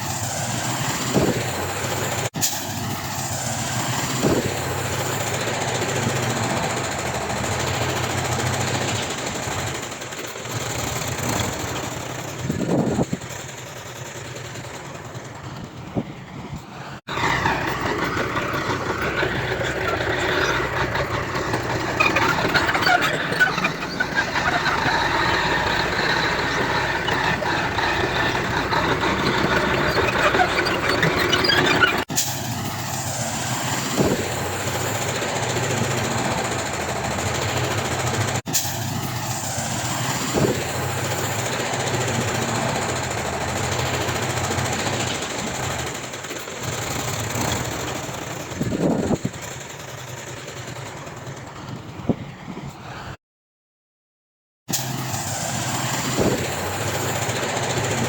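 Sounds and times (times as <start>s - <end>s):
heavy diesel machinery working: 0.0s - 53.2s, 54.7s - 58.0s.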